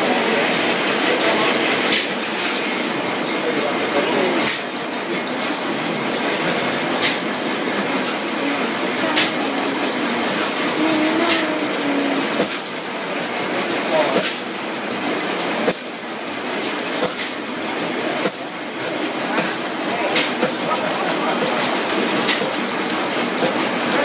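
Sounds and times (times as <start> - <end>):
sharp engine beat: 0.0 - 24.0
stationary gas engine running: 0.0 - 24.0.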